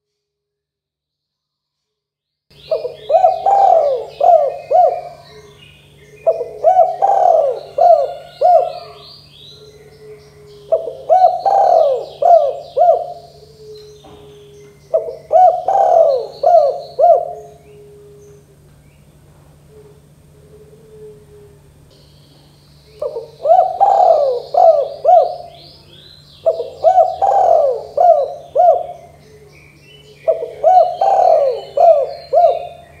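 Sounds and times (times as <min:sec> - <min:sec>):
small birds chirping: 0:02.5 - 0:20.3, 0:21.9 - 0:33.0
low steady hum: 0:02.5 - 0:33.0
dove cooing: 0:02.6 - 0:18.7, 0:19.5 - 0:21.9, 0:23.0 - 0:33.0.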